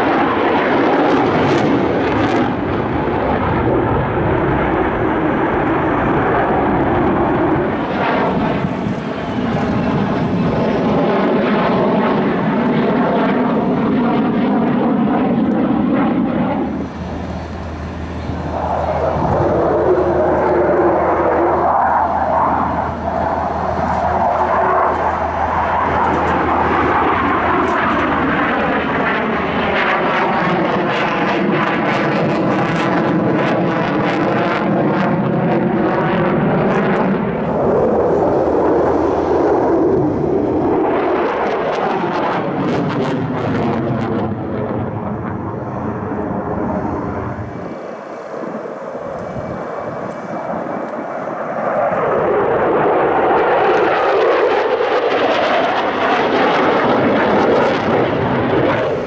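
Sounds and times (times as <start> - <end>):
jet engine roaring overhead: 0.0 - 59.0.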